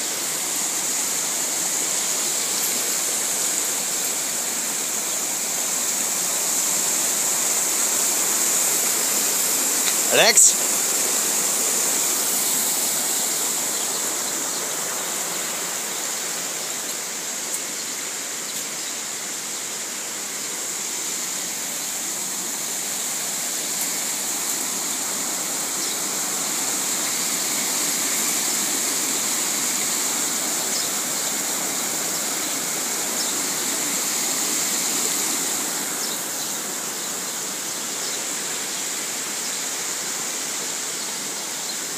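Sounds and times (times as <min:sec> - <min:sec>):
running water: 0:00.0 - 0:41.9.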